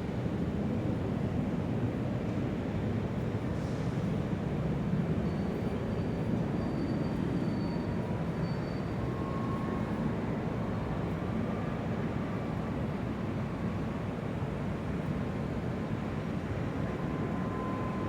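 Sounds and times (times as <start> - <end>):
low hum of distant aircraft: 0.0 - 18.0.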